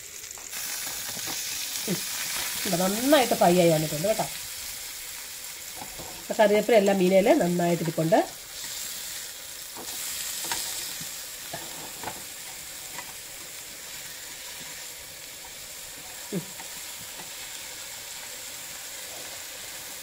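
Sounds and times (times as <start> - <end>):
fish sizzling in oil: 0.0 - 20.0.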